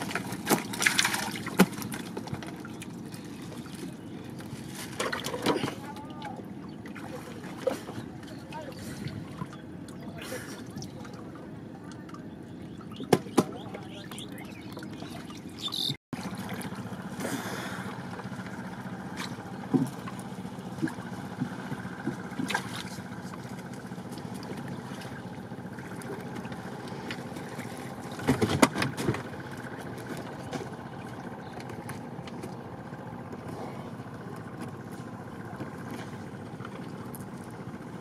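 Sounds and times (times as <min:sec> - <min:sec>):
water splashes: 0:00.0 - 0:32.6
low motor drone: 0:00.0 - 0:38.0.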